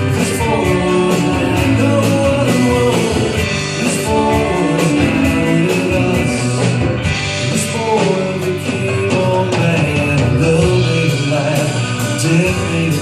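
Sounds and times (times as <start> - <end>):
drum beat: 0.0 - 13.0
guitar: 0.0 - 13.0
live band playing: 0.0 - 13.0
person singing: 0.0 - 13.0.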